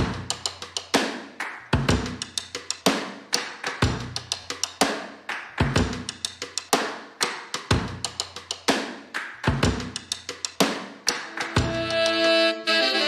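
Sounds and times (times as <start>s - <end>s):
drum-kit beat: 0.0s - 13.0s.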